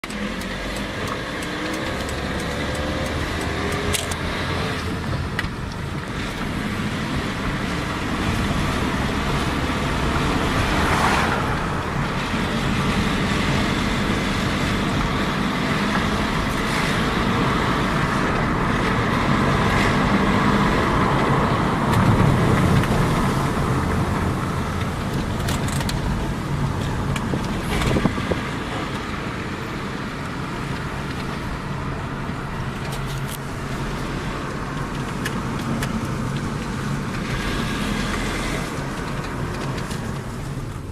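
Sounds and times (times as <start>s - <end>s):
low rattling rumble: 1.8s - 40.9s.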